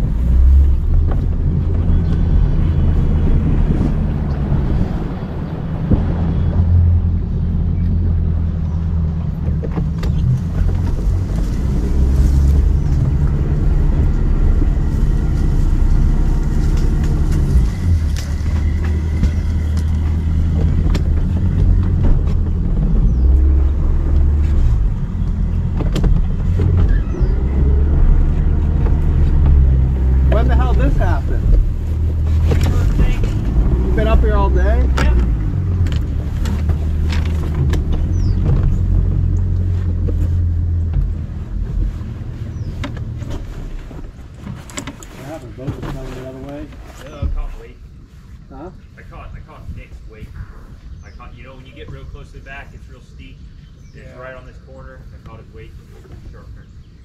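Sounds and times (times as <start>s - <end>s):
boat engine running: 0.0s - 47.8s.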